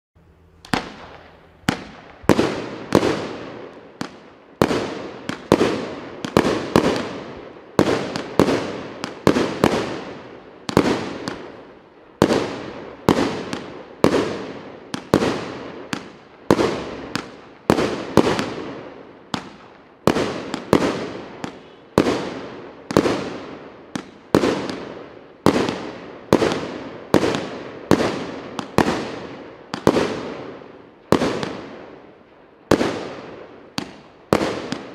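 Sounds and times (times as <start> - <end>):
fireworks cake firing bangs: 0.6 - 32.0, 32.7 - 34.9.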